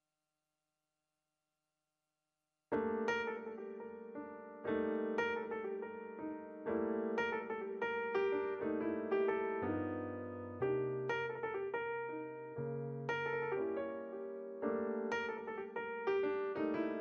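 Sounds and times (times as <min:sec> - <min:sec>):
gentle piano music: 0:02.8 - 0:17.0.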